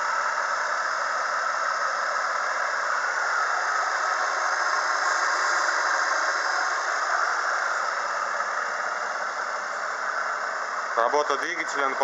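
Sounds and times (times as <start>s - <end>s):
thin steady whine: 0.0s - 12.0s.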